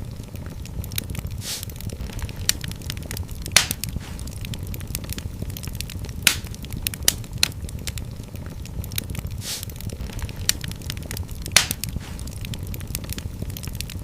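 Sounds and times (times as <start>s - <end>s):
fire crackling and popping: 0.0s - 14.0s
fire hissing sputter: 0.0s - 14.0s
low rumble of flames: 0.0s - 14.0s.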